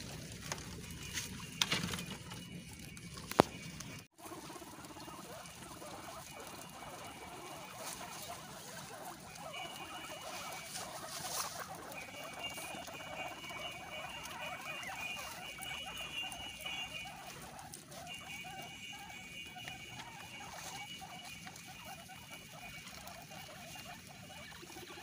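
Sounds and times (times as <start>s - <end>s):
guinea pigs crunching grass: 0.0s - 25.0s.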